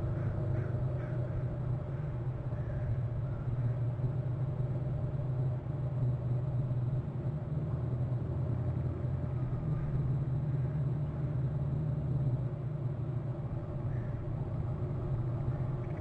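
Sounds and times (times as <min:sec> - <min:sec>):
faint constant hum: 0:00.0 - 0:16.0
steady low rumble: 0:00.0 - 0:16.0.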